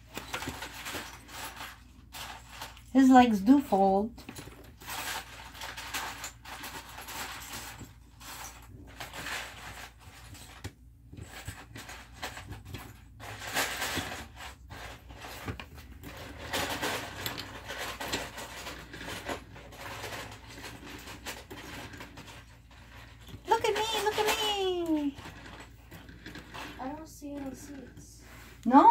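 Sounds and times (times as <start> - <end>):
plastic toy bricks rustling: 0.0 - 28.9.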